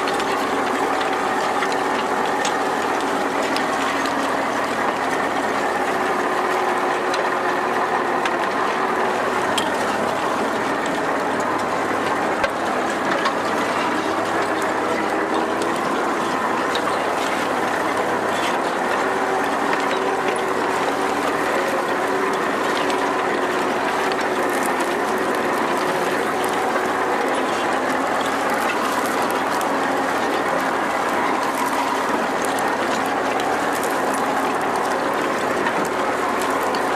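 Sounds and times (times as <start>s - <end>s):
diesel tractor engine clattering: 0.0s - 36.9s.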